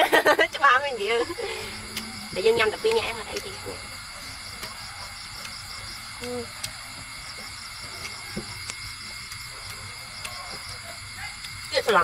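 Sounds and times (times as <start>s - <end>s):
night insects chorus: 0.0s - 12.0s.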